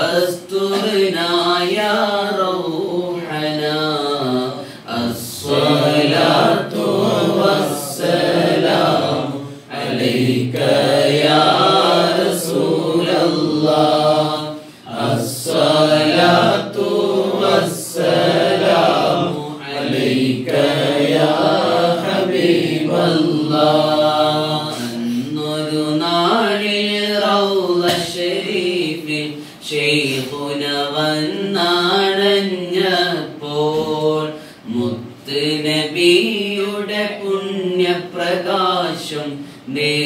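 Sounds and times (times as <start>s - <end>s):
man singing unaccompanied: 0.0s - 40.0s.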